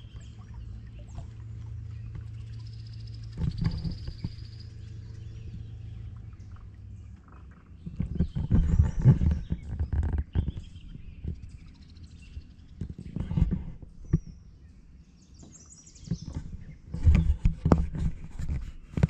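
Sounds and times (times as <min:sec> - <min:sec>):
birds chirping: 0:00.0 - 0:18.2
low rumbling: 0:00.0 - 0:19.0.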